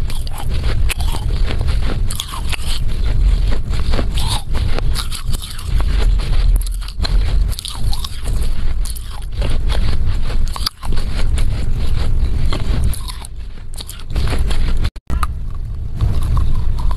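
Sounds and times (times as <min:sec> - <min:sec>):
chewing gritty clay: 0:00.0 - 0:16.9.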